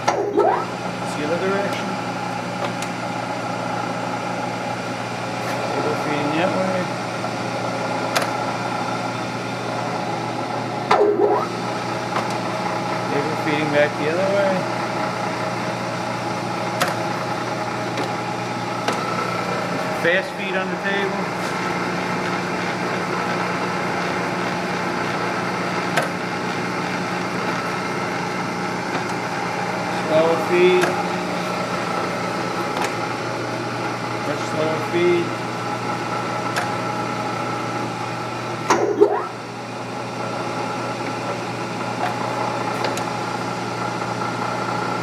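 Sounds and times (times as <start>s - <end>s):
milling machine motor hum: 0.0s - 45.0s.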